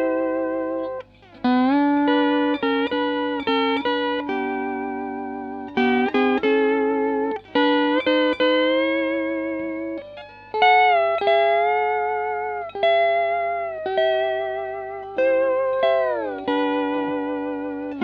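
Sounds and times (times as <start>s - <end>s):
steel guitar chords: 0.0s - 18.0s.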